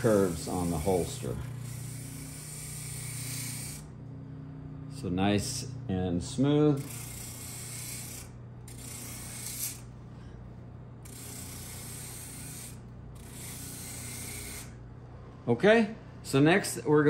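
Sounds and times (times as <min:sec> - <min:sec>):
electric motor hum: 0:00.0 - 0:15.4.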